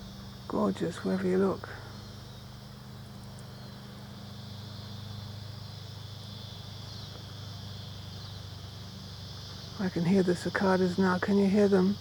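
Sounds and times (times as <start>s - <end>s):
cicadas buzzing: 0.0s - 12.0s
low engine hum: 0.0s - 12.0s.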